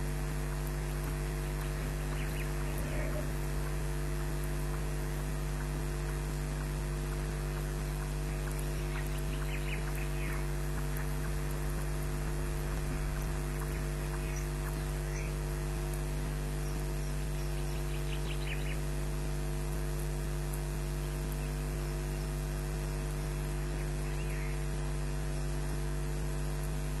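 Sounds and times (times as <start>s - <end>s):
electrical mains hum with hiss: 0.0s - 27.0s.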